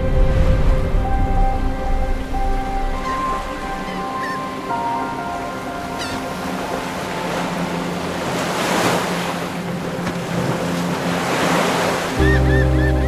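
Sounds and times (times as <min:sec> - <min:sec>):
ocean waves breaking: 0:00.0 - 0:13.0.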